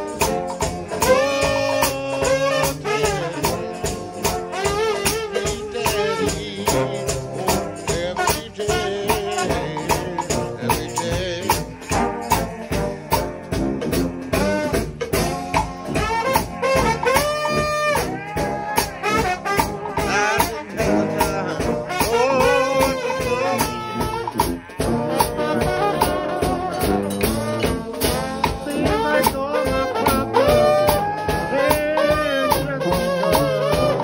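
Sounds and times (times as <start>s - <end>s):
brass band playing: 0.0s - 34.0s
steady drum beat: 0.0s - 34.0s
trombones sliding between notes: 0.0s - 34.0s.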